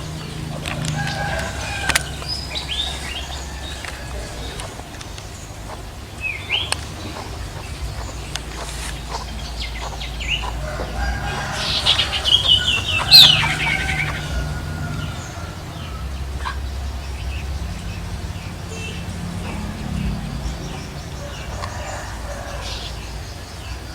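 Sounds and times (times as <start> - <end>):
bird calling with chattering notes: 0.0 - 23.9
steady low hum: 0.0 - 23.9.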